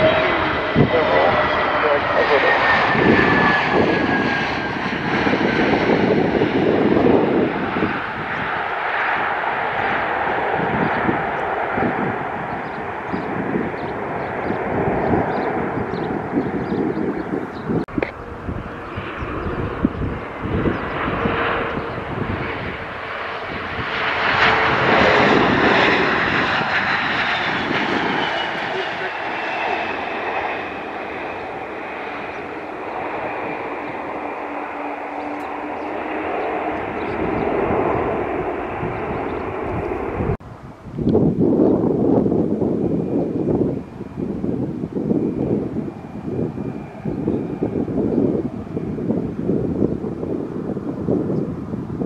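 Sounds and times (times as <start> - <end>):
jet engines roaring: 0.0 - 52.0.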